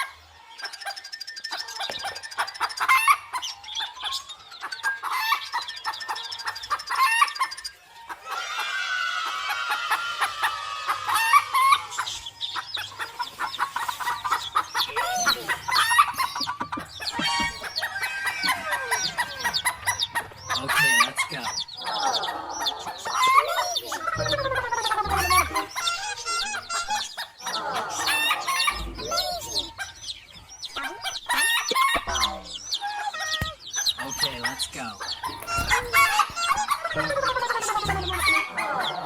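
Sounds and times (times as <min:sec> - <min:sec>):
chickens clucking: 0:00.0 - 0:39.0
roosters crowing: 0:00.0 - 0:39.0.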